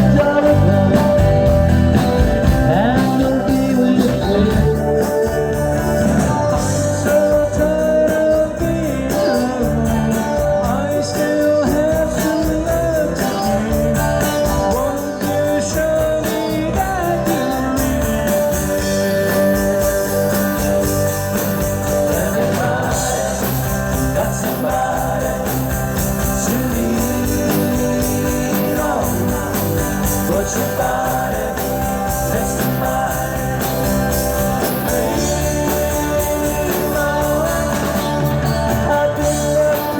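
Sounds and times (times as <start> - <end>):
electric guitar: 0.0 - 39.9
person singing: 0.0 - 39.9
steady drum beat: 0.0 - 39.9.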